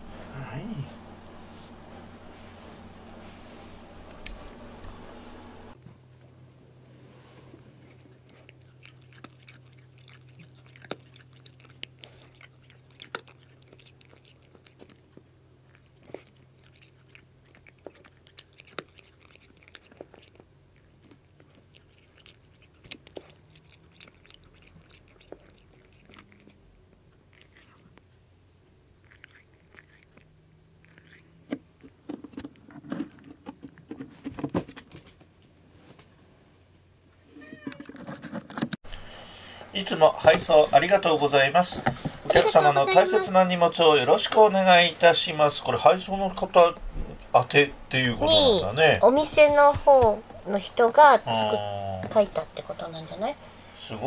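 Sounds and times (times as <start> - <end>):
cat chewing and crunching food: 7.0 - 36.1, 37.5 - 54.0.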